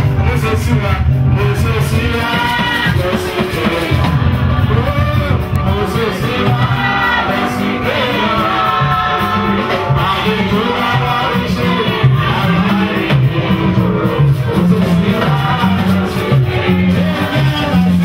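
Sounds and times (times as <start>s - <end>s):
congregation singing: 0.0s - 18.0s
instrumental accompaniment with bass: 0.0s - 18.0s.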